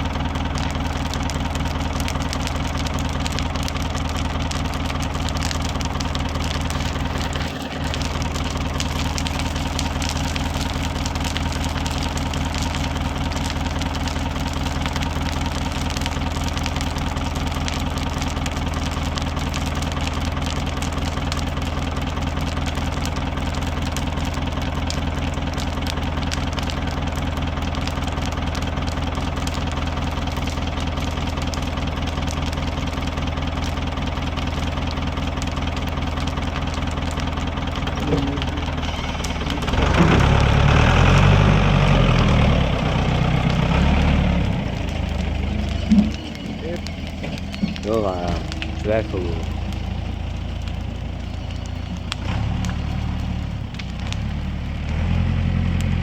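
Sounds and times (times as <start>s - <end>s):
diesel engine idling and revving: 0.0s - 56.0s
engine popping: 0.0s - 56.0s.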